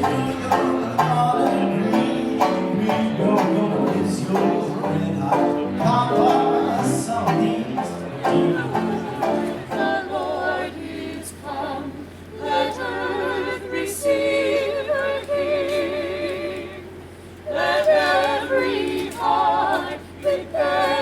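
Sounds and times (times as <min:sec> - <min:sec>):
choir singing a cappella: 0:00.0 - 0:21.0.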